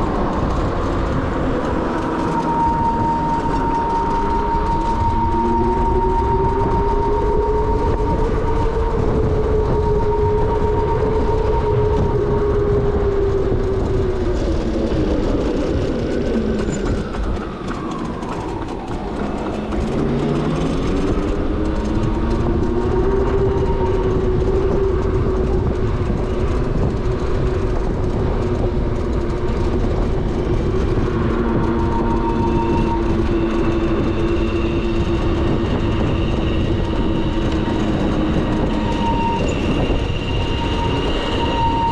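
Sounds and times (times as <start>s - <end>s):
electric motorbike motor whine: 0.0s - 41.9s
wind rushing over microphone: 0.0s - 41.9s.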